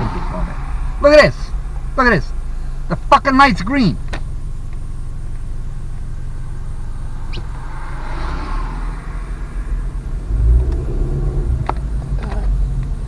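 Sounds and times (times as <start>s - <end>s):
car engine low rumble: 0.0s - 13.0s
road noise rushing hiss: 0.0s - 13.0s.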